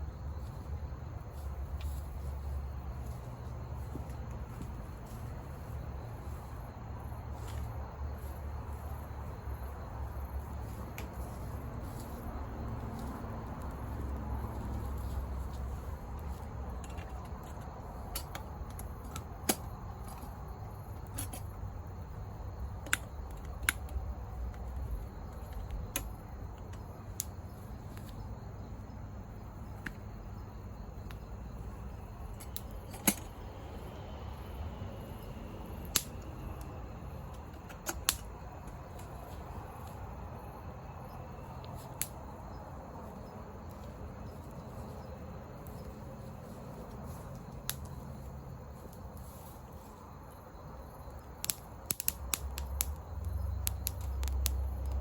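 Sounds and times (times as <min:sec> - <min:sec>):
campfire wood crackling: 0:00.0 - 0:55.0.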